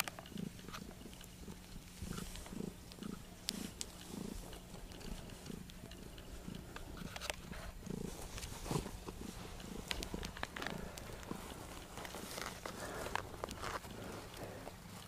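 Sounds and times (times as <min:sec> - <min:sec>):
cat purring: 0:00.0 - 0:15.0
faint rustling clicks: 0:00.0 - 0:15.0.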